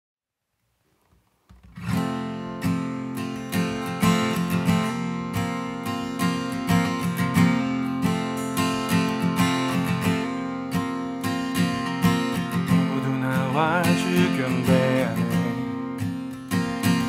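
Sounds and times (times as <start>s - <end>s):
acoustic guitar strumming: 1.5s - 17.0s.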